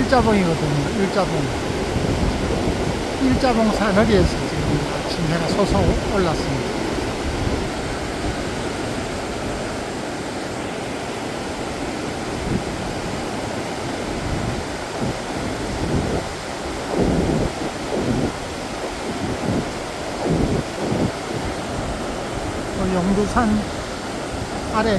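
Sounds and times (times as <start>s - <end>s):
wind buffeting microphone: 0.0s - 10.6s, 11.5s - 24.9s
swollen river rushing: 0.0s - 24.9s.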